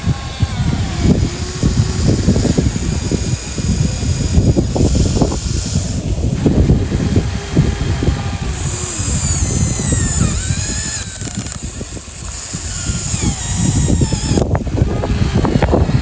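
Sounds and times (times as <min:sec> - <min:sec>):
small electric motors whining: 0:00.0 - 0:16.0
steady low rumble: 0:00.0 - 0:16.0.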